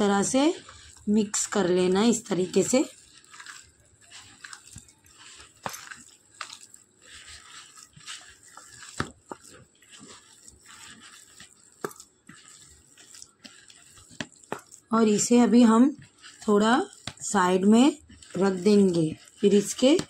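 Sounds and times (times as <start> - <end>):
wet mixing sounds: 0.0 - 20.0.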